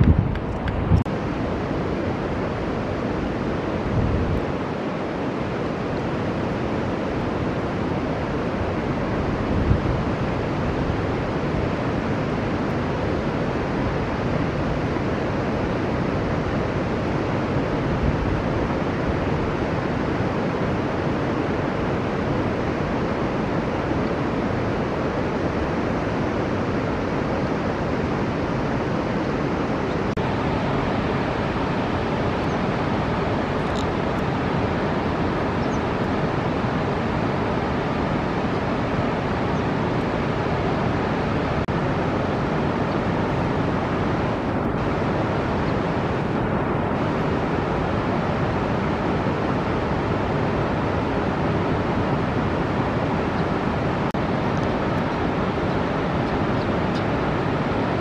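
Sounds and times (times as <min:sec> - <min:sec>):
river water rushing: 0:00.3 - 0:58.0.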